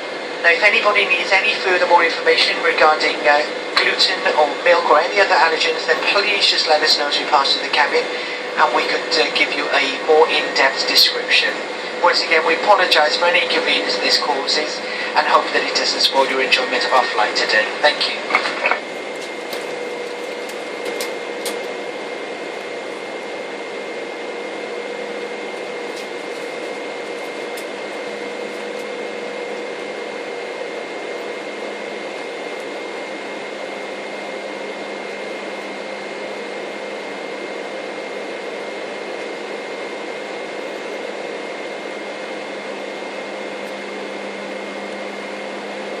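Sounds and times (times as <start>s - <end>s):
airliner cabin noise: 0.0s - 46.0s
faint high whine: 0.0s - 46.0s.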